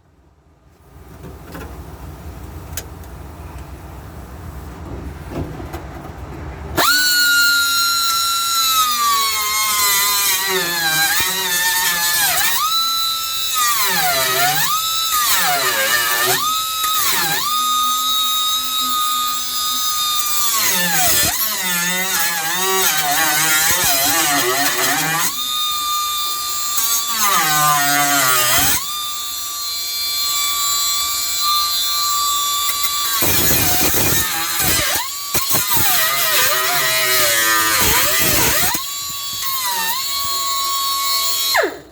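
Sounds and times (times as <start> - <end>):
power cutting tool whining: 6.8 - 41.9.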